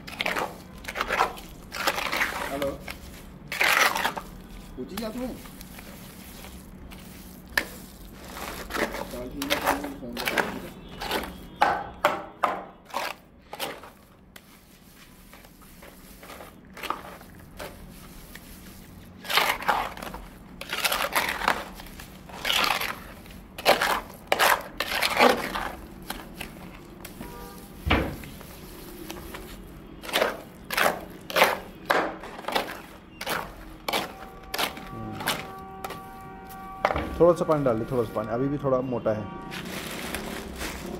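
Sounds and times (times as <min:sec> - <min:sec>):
tool scraping gritty concrete mix: 0:00.0 - 0:11.5, 0:12.9 - 0:38.3.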